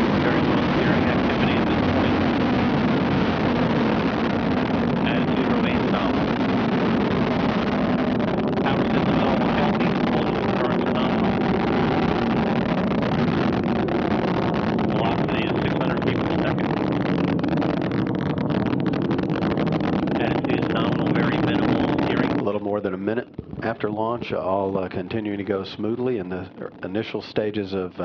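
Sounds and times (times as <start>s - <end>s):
rocket crackling: 0.0s - 28.0s
rocket engines roaring: 0.0s - 28.0s.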